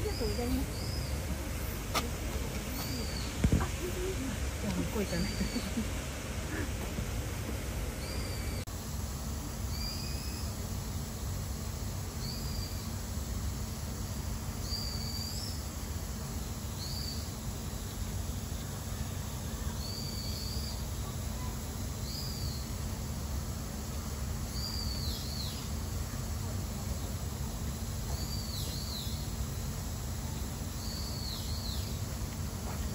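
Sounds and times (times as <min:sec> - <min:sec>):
low outdoor rumble: 0:00.0 - 0:32.9.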